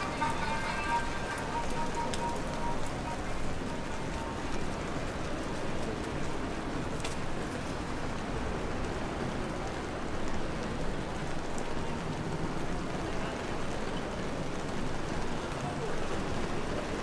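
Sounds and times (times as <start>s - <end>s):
rain hissing on street: 0.0s - 17.0s
raindrop ticks: 0.0s - 17.0s.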